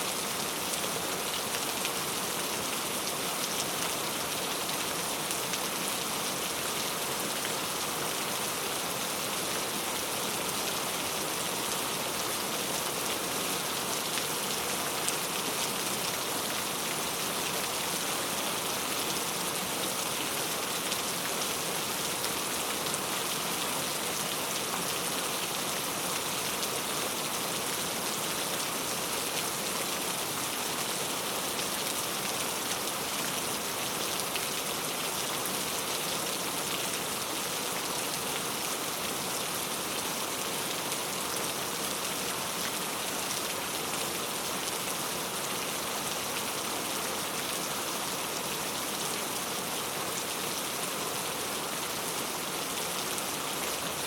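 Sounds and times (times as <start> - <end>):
steady rain on a surface: 0.0 - 54.0.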